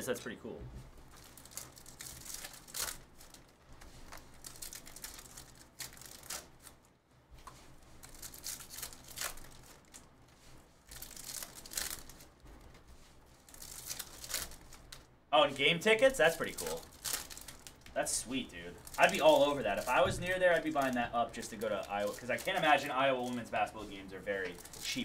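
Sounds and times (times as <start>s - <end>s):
foil wrappers crinkling and tearing: 1.0s - 6.9s, 7.6s - 15.1s, 15.8s - 25.0s.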